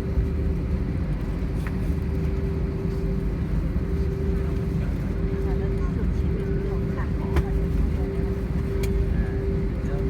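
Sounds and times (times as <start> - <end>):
aircraft cabin rumble: 0.0 - 10.0
constant hum: 0.0 - 10.0.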